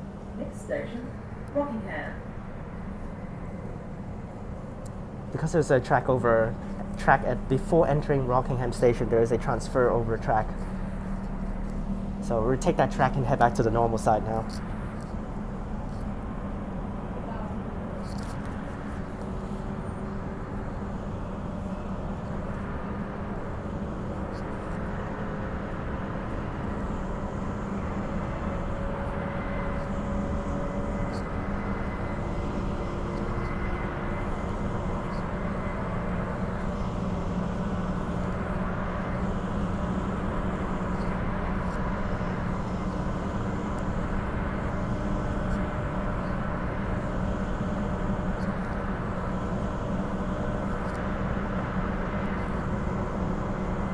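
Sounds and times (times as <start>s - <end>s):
faint electric motor whine: 0.0s - 53.9s.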